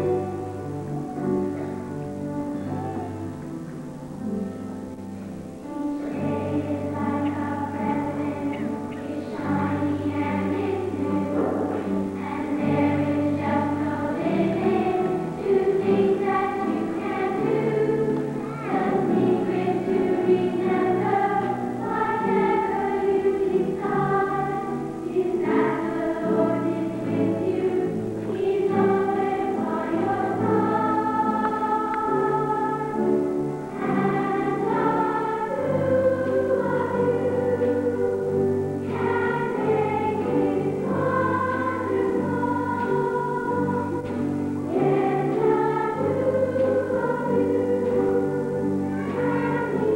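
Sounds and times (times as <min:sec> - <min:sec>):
choir singing: 0:00.0 - 0:04.9, 0:05.6 - 0:49.9
instrumental accompaniment: 0:00.0 - 0:49.9.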